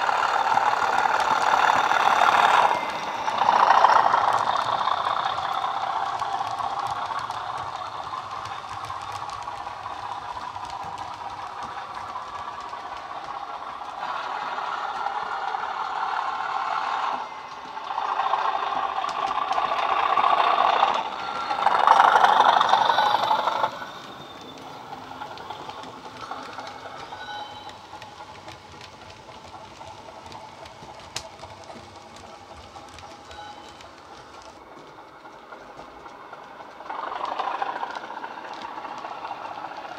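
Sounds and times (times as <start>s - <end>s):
model train diesel engine sound: 0.0s - 39.9s.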